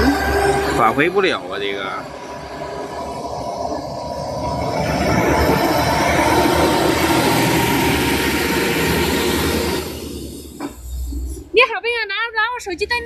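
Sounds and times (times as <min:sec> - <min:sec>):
large truck passing: 0:00.0 - 0:11.5.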